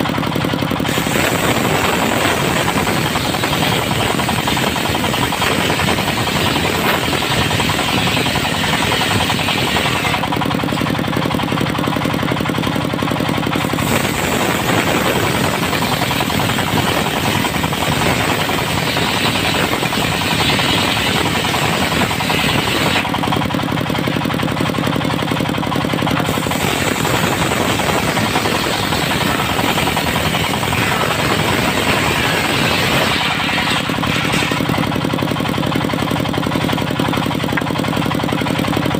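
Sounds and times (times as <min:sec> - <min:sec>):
engine-driven machine rattling: 0:00.0 - 0:38.9.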